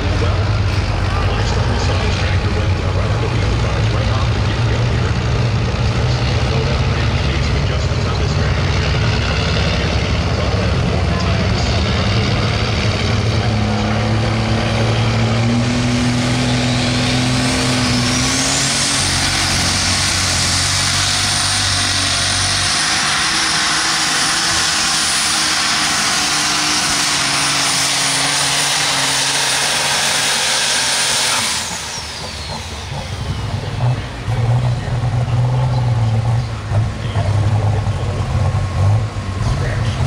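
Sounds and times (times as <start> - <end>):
tractor engine at full throttle: 0.0 - 40.0.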